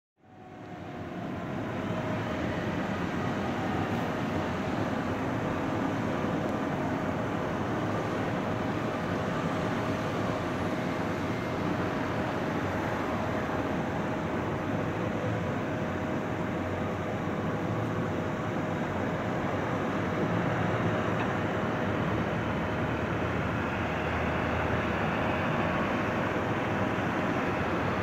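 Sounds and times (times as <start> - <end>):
jet engines roaring: 0.4 - 28.0.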